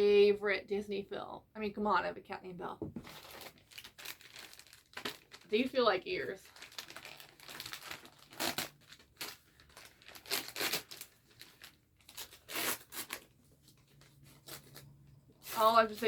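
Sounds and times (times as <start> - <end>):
wrapping tearing and crinkling: 3.1 - 16.0.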